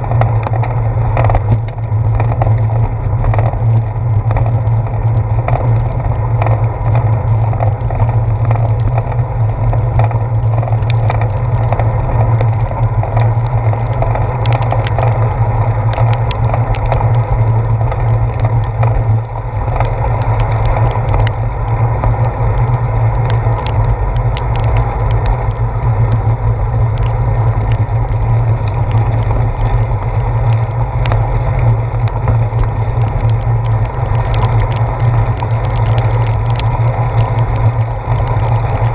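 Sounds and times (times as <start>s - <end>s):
bicycle rattles over bumps: 0.0s - 38.9s
bicycle riding on wet pavement: 0.0s - 38.9s.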